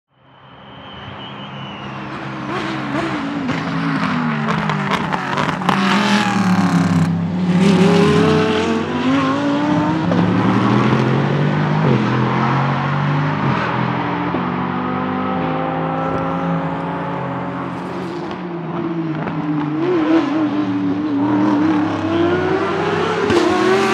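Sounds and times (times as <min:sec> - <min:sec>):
race car engine passing: 0:01.8 - 0:23.9.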